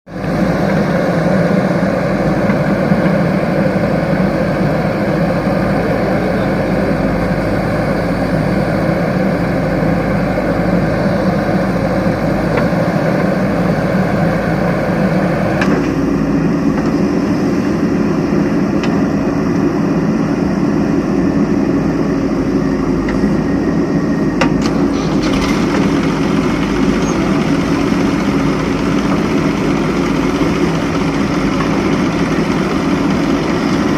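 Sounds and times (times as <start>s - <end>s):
heavy diesel engine running: 0.1s - 33.9s.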